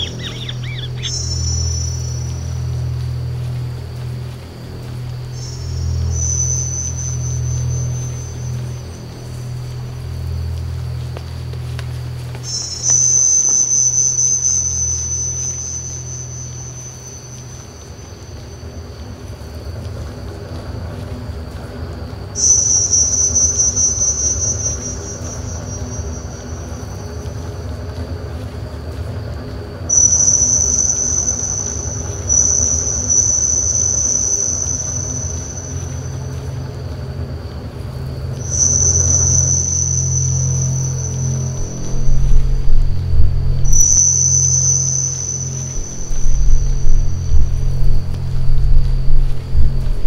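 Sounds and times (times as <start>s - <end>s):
high-pitched whine: 0.0s - 20.4s, 22.3s - 50.0s
crickets trilling: 0.0s - 50.0s
low background rumble: 0.0s - 50.0s
low steady hum: 0.0s - 50.0s.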